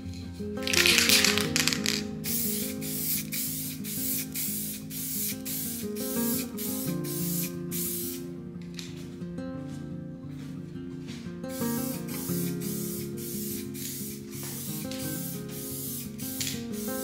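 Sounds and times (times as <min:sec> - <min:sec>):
background guitar music: 0:00.0 - 0:17.0
spray paint can hissing: 0:00.6 - 0:08.9, 0:11.6 - 0:17.0.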